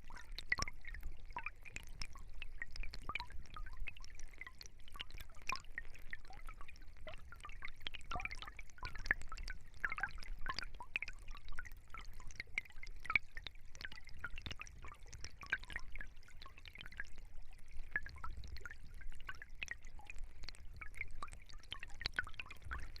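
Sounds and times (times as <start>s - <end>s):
stream water trickling: 0.0s - 23.0s.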